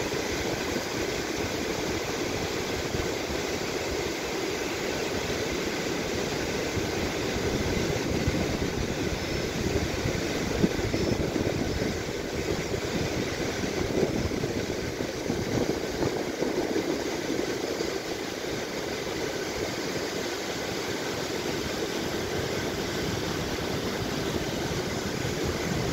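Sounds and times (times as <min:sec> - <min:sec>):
rushing mountain river: 0:00.0 - 0:25.9.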